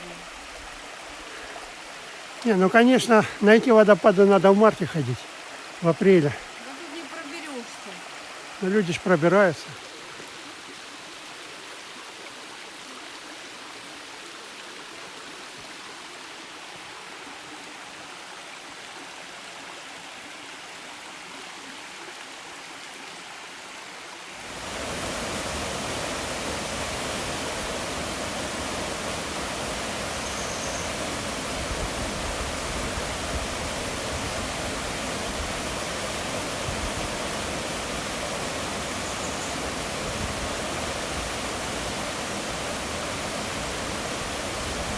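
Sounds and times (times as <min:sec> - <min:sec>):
waterfall rushing water: 0:00.0 - 0:19.8, 0:23.8 - 0:44.9.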